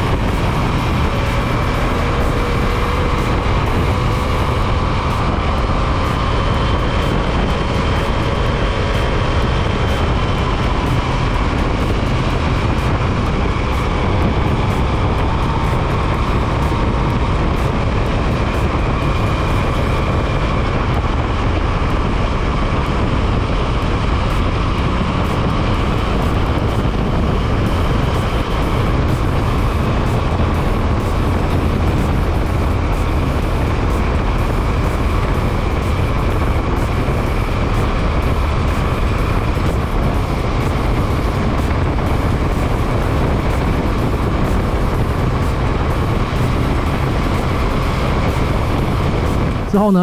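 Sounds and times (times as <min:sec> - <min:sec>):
faint motorcycle engine hum: 0:00.0 - 0:50.0
wind noise: 0:00.0 - 0:50.0.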